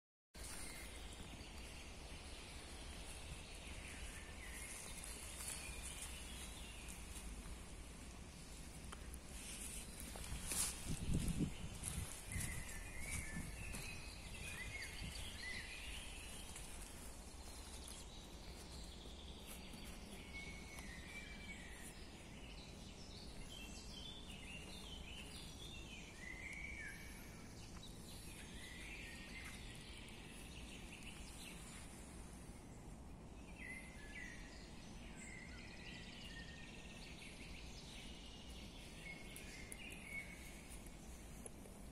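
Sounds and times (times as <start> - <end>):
low outdoor background noise: 0.4 - 41.9
songbirds chirping: 0.4 - 41.9.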